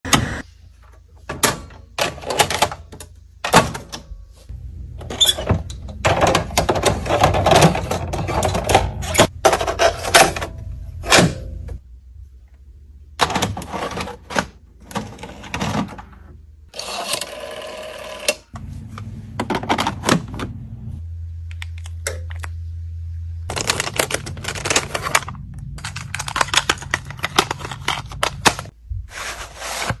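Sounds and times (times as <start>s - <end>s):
low steady hum: 0.5s - 16.7s, 18.5s - 29.1s.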